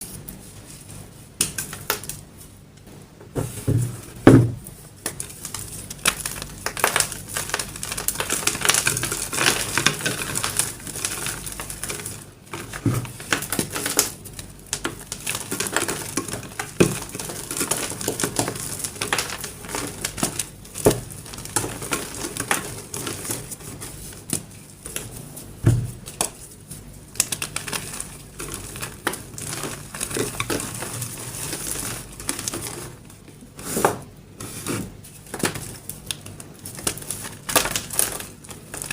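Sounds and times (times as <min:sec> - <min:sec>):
chalk crackling and crumbling: 0:04.6 - 0:38.9.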